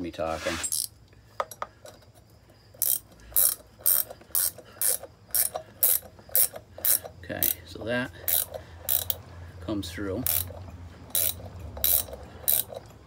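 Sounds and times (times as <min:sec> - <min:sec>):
ratchet wrench clicking: 0:00.7 - 0:02.0, 0:02.8 - 0:09.3, 0:10.2 - 0:13.0.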